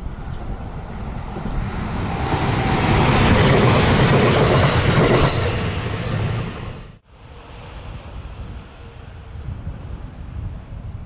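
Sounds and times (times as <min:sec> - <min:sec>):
electric train passing: 0:00.0 - 0:10.9.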